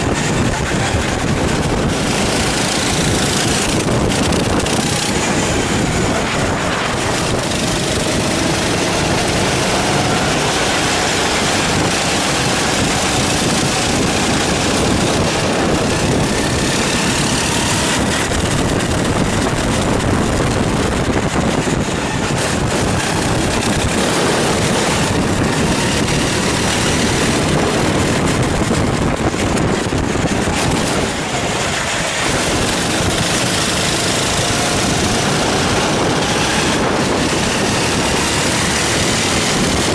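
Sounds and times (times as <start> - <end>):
go-kart engine revving: 0.0 - 39.9
heavy wind noise: 0.0 - 39.9
road noise: 0.0 - 39.9.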